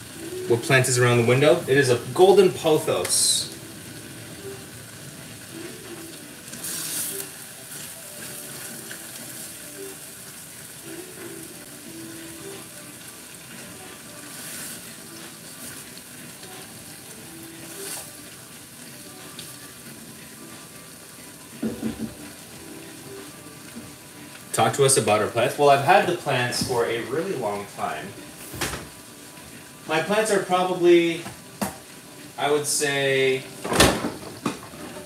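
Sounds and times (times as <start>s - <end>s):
pot simmering with sizzling hiss: 0.0s - 35.0s.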